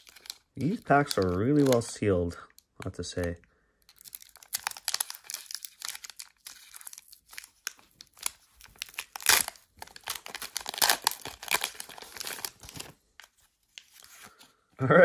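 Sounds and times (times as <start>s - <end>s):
foil wrapper crinkling and tearing: 0.0s - 2.0s, 3.9s - 14.4s.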